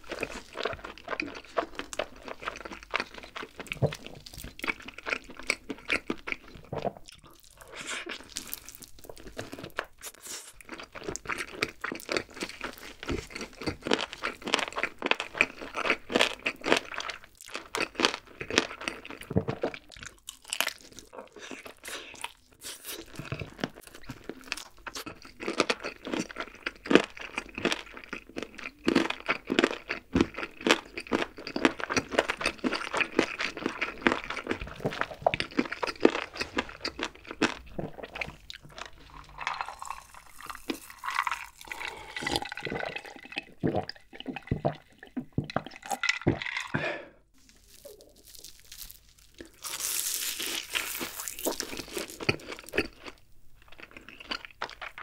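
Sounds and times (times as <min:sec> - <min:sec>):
chewing and biting chicken: 0:00.0 - 0:44.9, 0:47.4 - 0:55.0.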